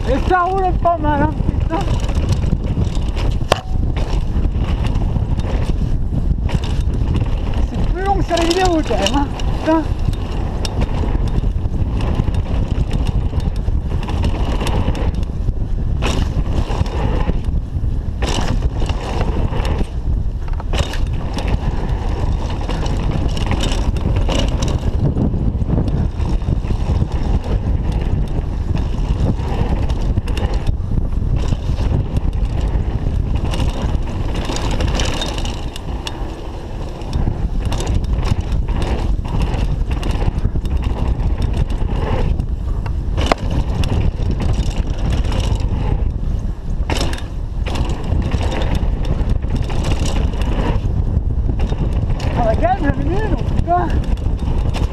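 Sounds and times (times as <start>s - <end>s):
bike rattling over bumps: 0.0s - 54.9s
bike tyres rolling on dirt: 0.0s - 54.9s
wind buffeting microphone: 0.0s - 54.9s.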